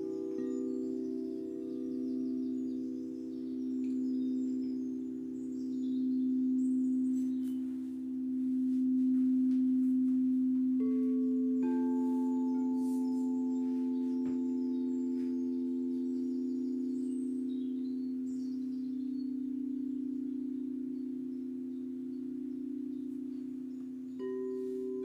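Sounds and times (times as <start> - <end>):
faint bird chirps: 0.0 - 25.0
singing bowls ringing: 0.0 - 25.0.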